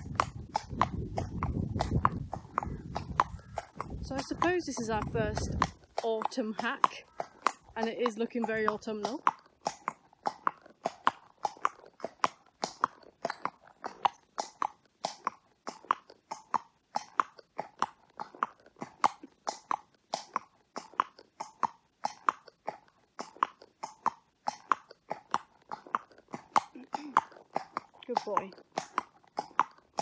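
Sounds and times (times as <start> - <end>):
horse hooves clopping on tarmac: 0.0 - 30.0.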